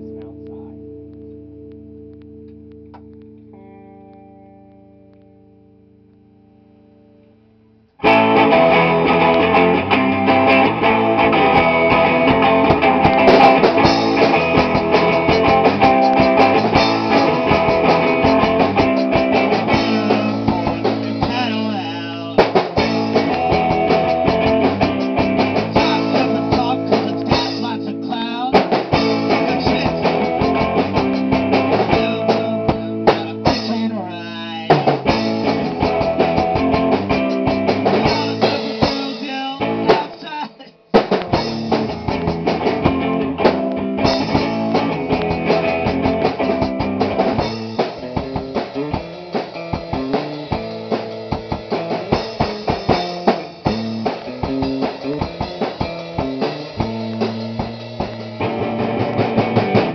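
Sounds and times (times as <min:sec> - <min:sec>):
bass guitar: 0:00.0 - 0:59.9
electric guitar: 0:00.0 - 0:59.9
drum kit: 0:08.0 - 0:59.9.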